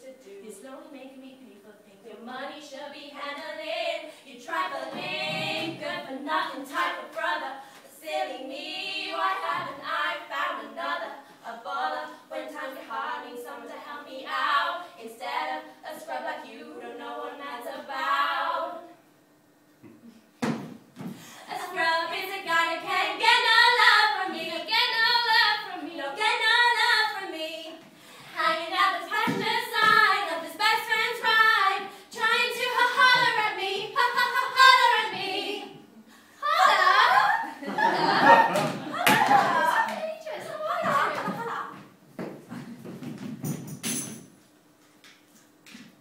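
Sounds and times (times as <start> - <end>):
two women singing: 0.0 - 19.0, 21.3 - 41.8.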